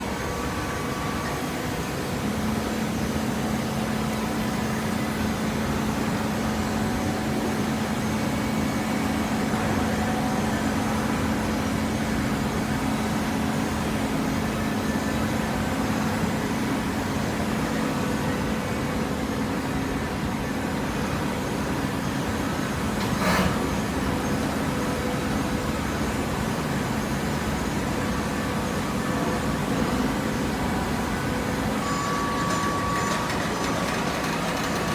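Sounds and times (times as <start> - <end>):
baler machine hum: 0.0 - 34.9.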